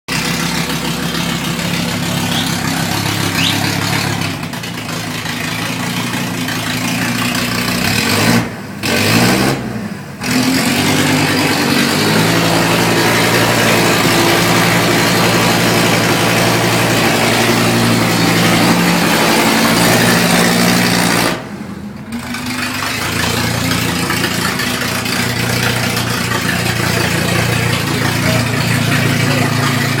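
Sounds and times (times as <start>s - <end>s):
engine revving without exhaust: 0.1s - 30.0s.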